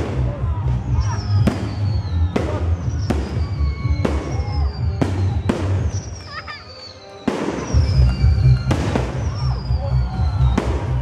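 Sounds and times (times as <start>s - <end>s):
fireworks bursting with bangs: 0.0s - 11.0s
falling firework whistle: 1.1s - 11.0s.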